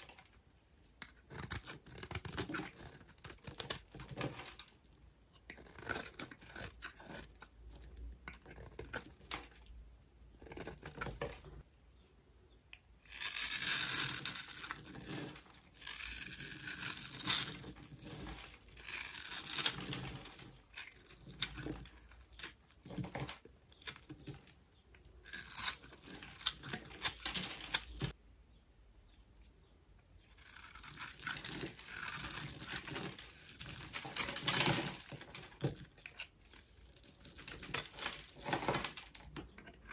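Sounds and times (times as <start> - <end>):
knife cutting dry soap: 0.1 - 11.6, 13.1 - 24.6, 30.3 - 39.9.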